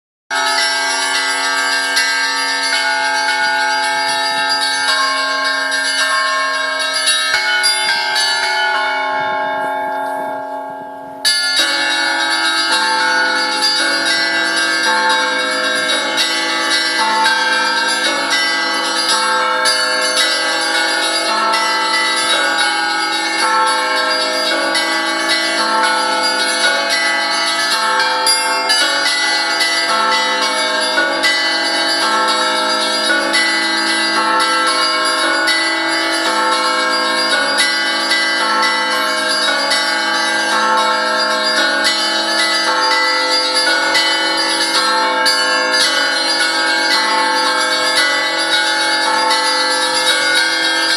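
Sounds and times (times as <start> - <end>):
deep bells humming: 0.3 - 50.9.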